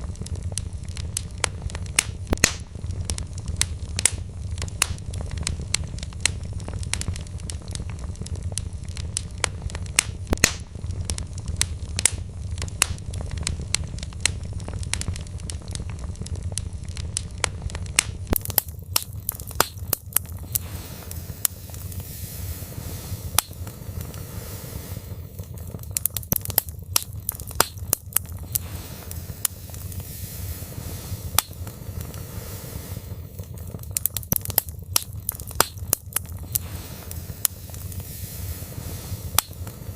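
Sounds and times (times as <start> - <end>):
bright fire hiss: 0.0 - 39.9
logs popping and snapping: 0.0 - 39.9
low rumble of flames: 0.0 - 39.9.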